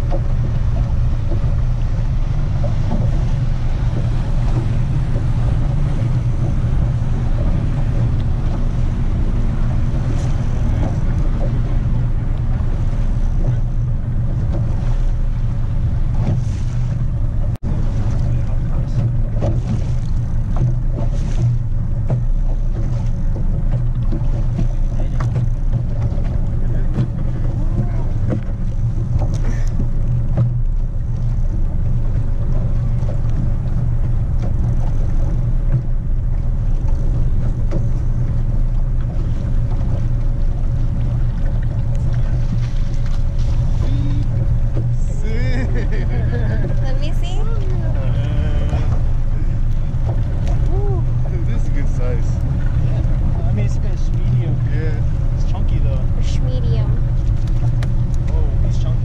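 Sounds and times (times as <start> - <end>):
boat motor running steadily: 0.0 - 59.0
water noise: 0.0 - 59.0
wind: 0.0 - 59.0.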